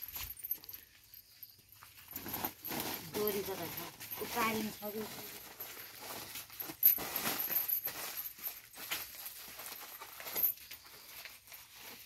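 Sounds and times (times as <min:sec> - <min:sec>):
plastic sack crinkling: 0:01.9 - 0:12.0.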